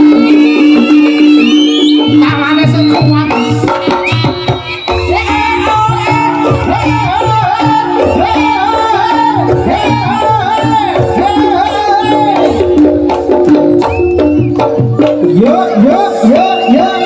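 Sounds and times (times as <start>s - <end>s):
hand drumming: 1.8s - 17.0s.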